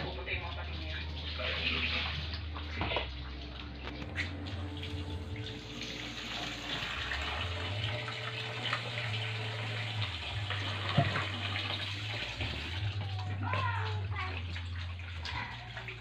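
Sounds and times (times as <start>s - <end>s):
water running and splashing: 0.0s - 16.0s
low hum: 2.3s - 15.9s.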